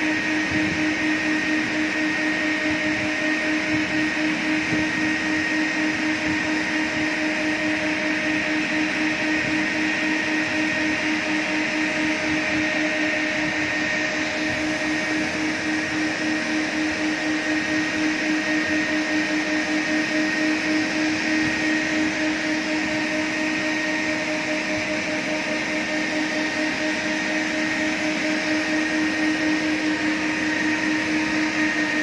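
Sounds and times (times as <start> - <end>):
carpet scrubbing machine: 0.0 - 32.0
wet vacuum running: 0.0 - 32.0.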